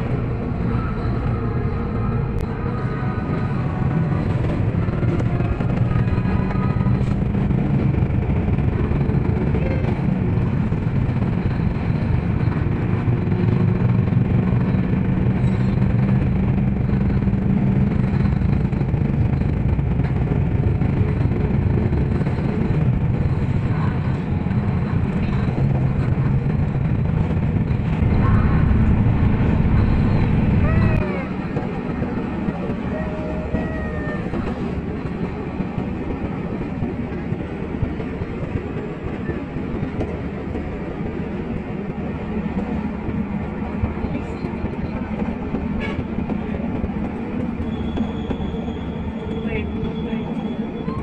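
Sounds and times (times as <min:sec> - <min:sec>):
vehicle engine and road noise: 0:00.0 - 0:51.0.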